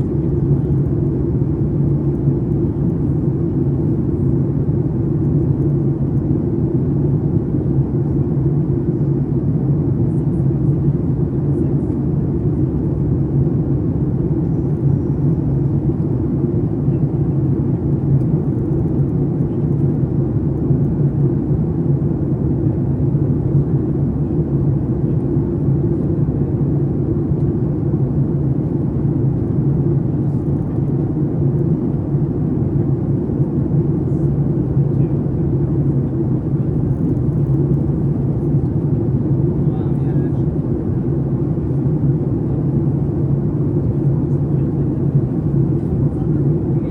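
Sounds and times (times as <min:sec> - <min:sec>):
airplane cabin engine drone: 0:00.0 - 0:46.9.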